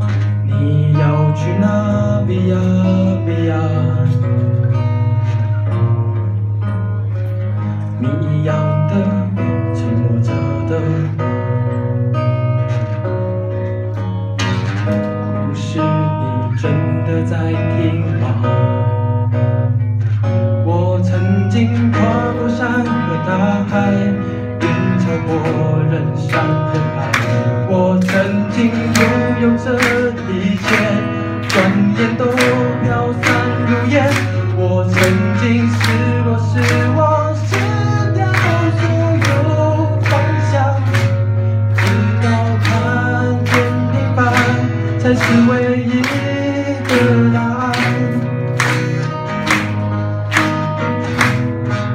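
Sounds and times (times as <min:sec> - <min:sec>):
acoustic guitars strumming: 0:00.0 - 0:51.9.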